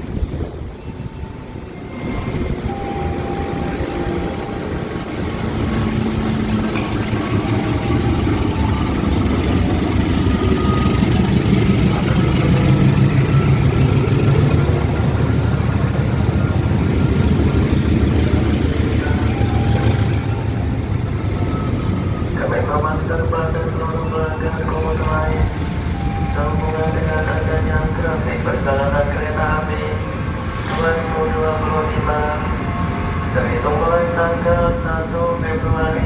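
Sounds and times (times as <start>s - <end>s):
locomotive engine rumbling: 0.0s - 36.0s.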